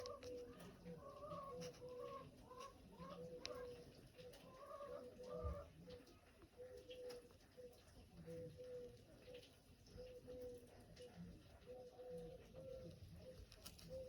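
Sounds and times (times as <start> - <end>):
faint bird calls: 0.0 - 14.0.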